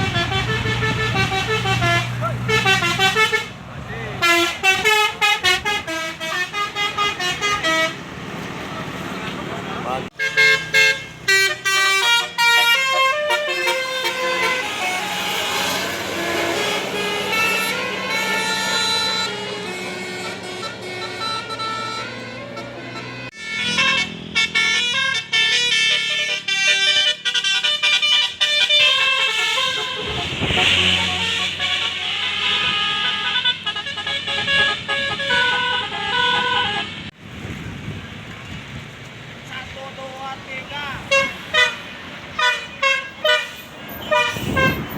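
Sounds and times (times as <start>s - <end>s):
multi-tone air horn tune: 0.0s - 3.5s, 4.2s - 8.0s, 10.2s - 37.1s, 41.1s - 44.9s
bus engine rumbling: 0.0s - 44.9s.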